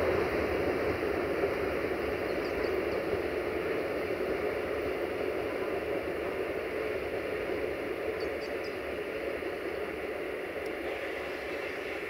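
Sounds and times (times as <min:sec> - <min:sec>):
freight wagon wheels rumbling on rails: 0:00.0 - 0:12.0.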